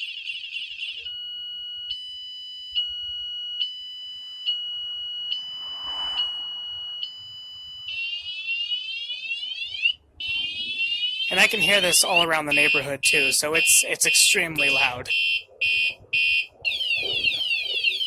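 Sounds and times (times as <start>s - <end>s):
motorcycle alarm siren: 0.0s - 18.0s.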